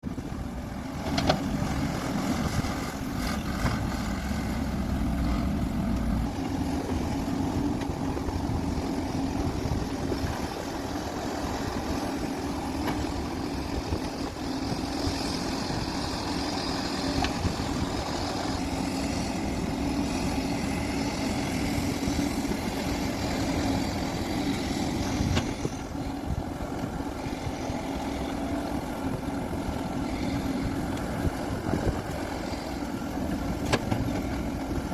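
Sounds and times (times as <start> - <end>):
diesel excavator running: 0.0 - 34.9.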